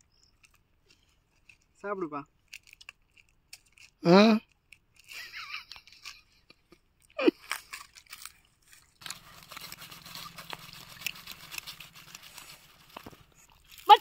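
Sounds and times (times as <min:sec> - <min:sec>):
fruit crunching and chewing: 0:00.0 - 0:14.0
fruit tearing: 0:00.2 - 0:14.0.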